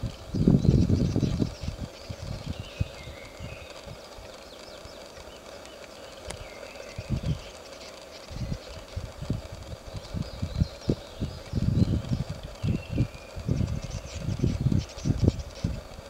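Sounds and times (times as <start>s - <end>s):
high wavering bird calls: 0.0s - 15.9s.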